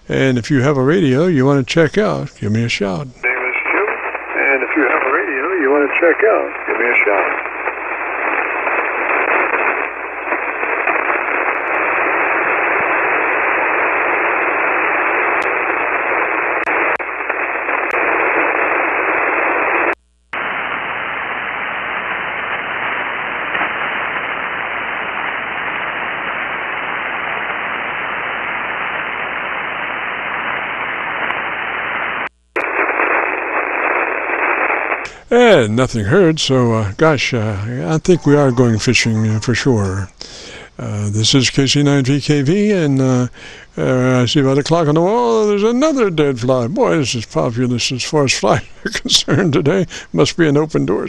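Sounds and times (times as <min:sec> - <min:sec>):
radio receiver hiss: 0:00.0 - 0:51.0.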